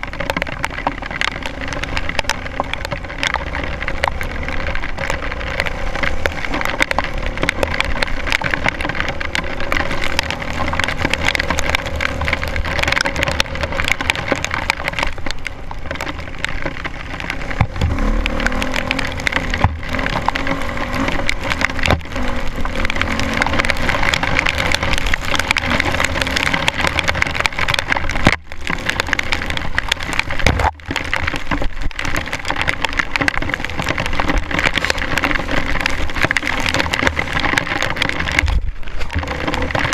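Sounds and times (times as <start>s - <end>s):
rain pattering on camera housing: 0.0s - 39.9s.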